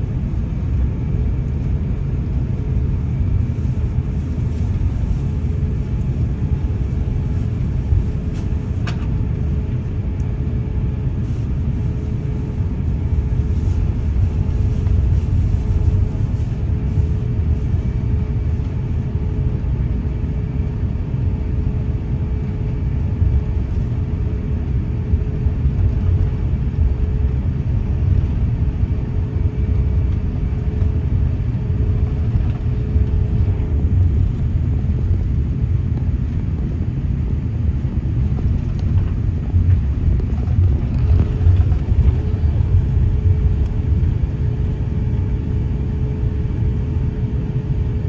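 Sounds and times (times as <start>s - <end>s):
airliner taxiing low rumble: 0.0s - 48.0s
faint steady hum: 0.0s - 48.0s.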